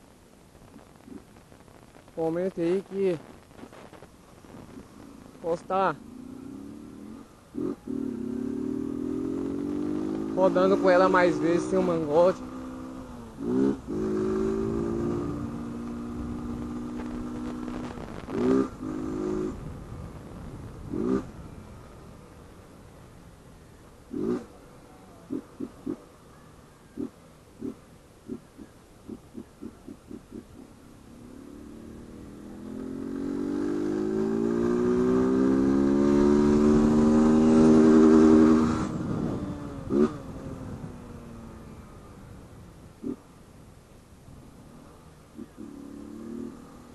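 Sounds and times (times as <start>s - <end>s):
motorcycle engine accelerating: 3.7s - 22.4s, 23.7s - 26.2s, 26.9s - 43.4s, 44.6s - 46.9s.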